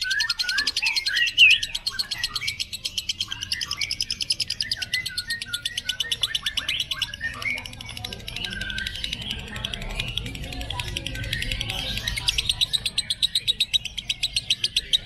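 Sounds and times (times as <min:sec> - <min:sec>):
bird chirps: 0:00.0 - 0:15.0
lovebird chattering trill: 0:00.0 - 0:15.0.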